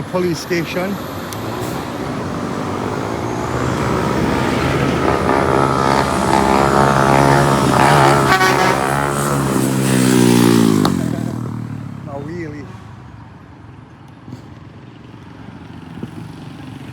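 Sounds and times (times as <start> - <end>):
vehicle engine approaching: 0.0 - 16.9.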